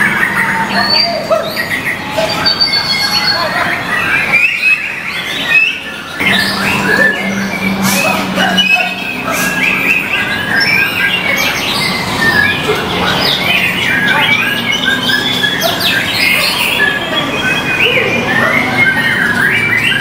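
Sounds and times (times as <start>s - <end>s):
bird singing varied whistles: 0.5s - 20.0s.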